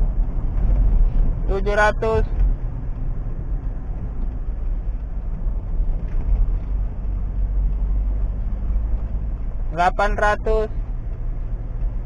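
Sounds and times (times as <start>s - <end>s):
car driving on rough road: 0.0s - 12.0s.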